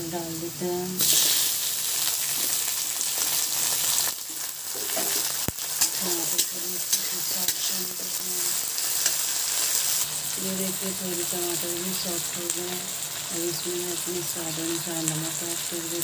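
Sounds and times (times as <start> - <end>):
loud sizzle in oil: 0.0 - 16.0.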